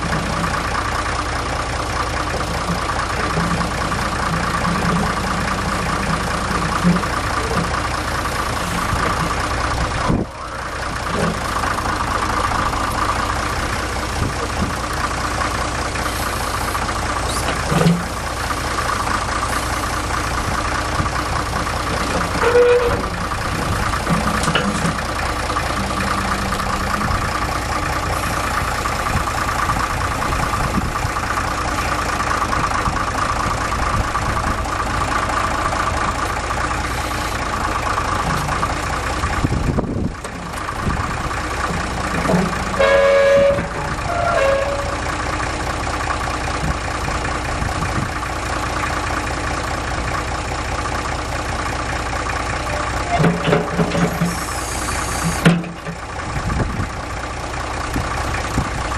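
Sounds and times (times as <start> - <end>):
tractor engine idling: 0.0 - 58.9.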